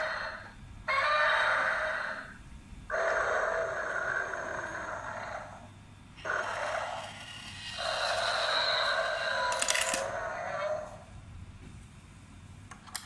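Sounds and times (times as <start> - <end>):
toy speaker playing monster roar: 0.0 - 11.0.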